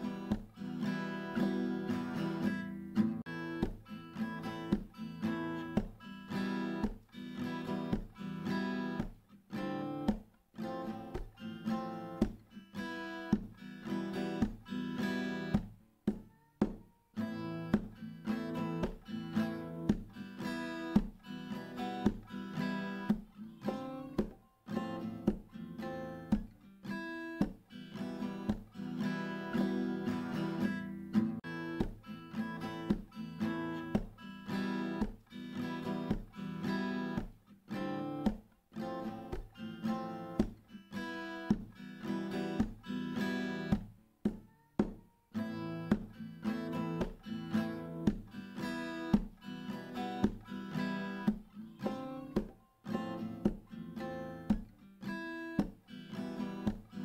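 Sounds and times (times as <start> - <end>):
guitar chords plucked and strummed: 0.0 - 57.0.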